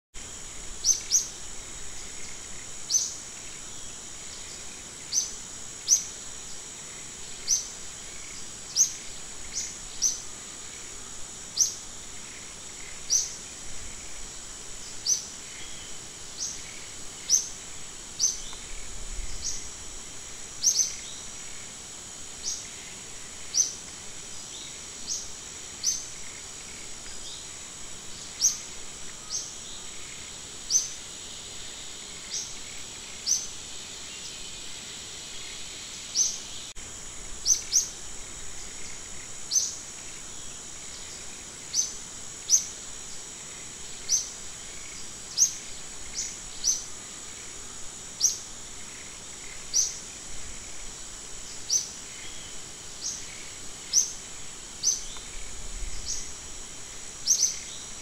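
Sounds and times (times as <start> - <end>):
high insect drone: 0.1 - 58.0.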